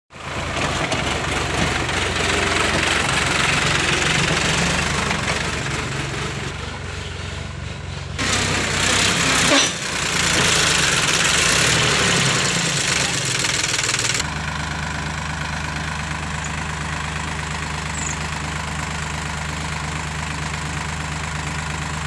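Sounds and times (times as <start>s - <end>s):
tractor diesel engine running: 0.1s - 22.0s.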